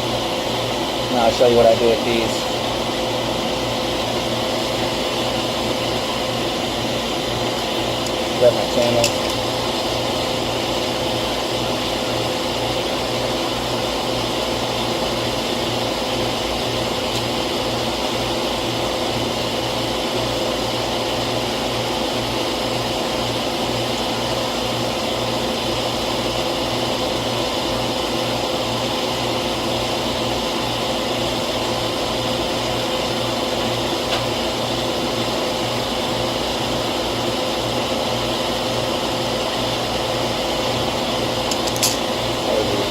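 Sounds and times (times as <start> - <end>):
recovery machine humming: 0.0 - 42.9.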